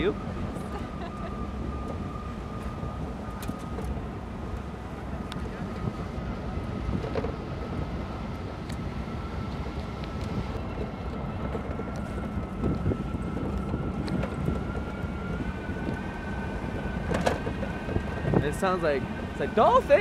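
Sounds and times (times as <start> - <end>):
truck low rumble: 0.0 - 20.0
wind buffeting microphone: 0.0 - 20.0.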